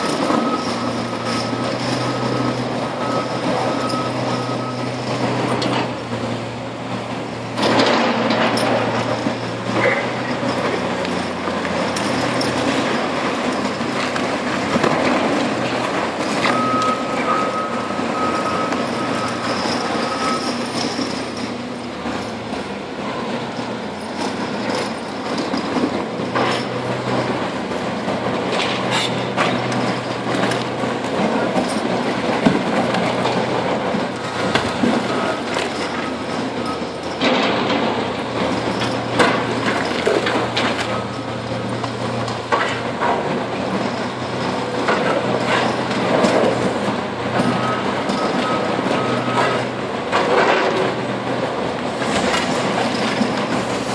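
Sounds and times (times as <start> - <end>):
grinding and rattling: 0.0 - 53.9
heavy machinery engine: 0.0 - 53.9.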